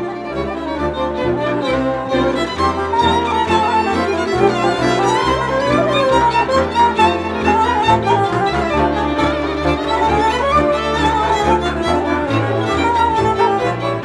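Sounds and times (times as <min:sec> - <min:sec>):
bowed double bass: 0:00.0 - 0:14.0
fiddles playing melody: 0:00.0 - 0:14.0.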